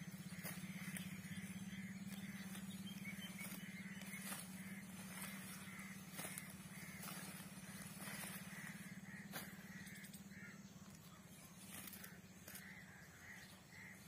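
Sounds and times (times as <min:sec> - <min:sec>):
bird calling: 0:00.0 - 0:14.0
steady low hum: 0:00.0 - 0:14.0.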